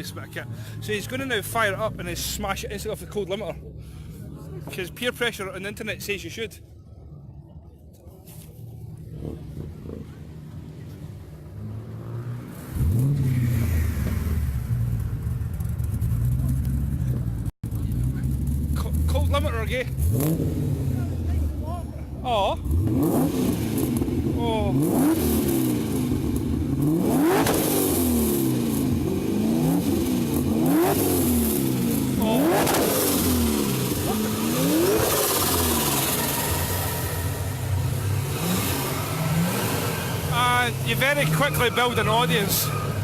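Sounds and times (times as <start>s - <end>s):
car engine starting and idling: 0.0s - 43.0s.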